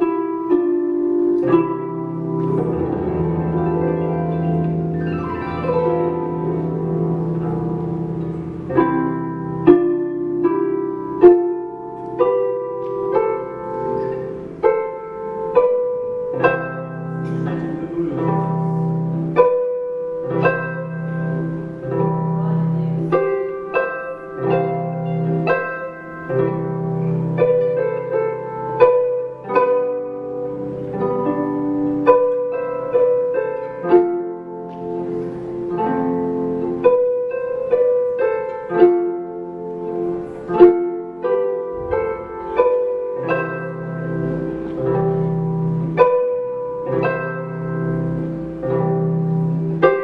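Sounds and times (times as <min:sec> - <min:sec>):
solo harp melody: 0:00.0 - 0:50.0.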